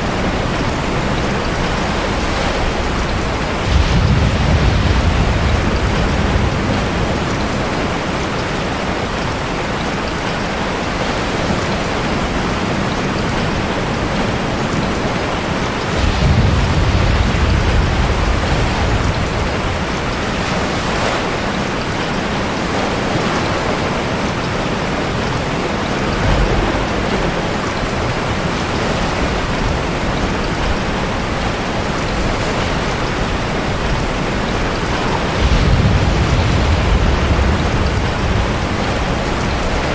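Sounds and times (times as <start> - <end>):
heavy rain: 0.0 - 39.9
ocean waves surging: 0.0 - 39.9.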